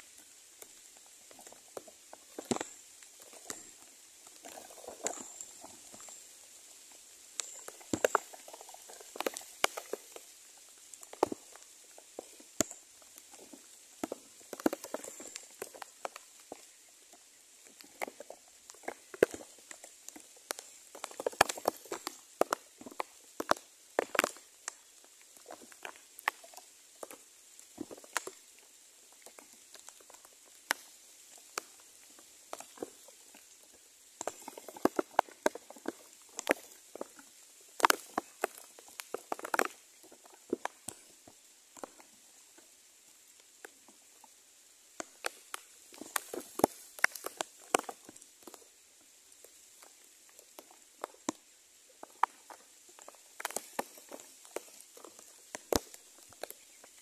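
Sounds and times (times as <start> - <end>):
rustling and crackling twigs: 0.0 - 57.0.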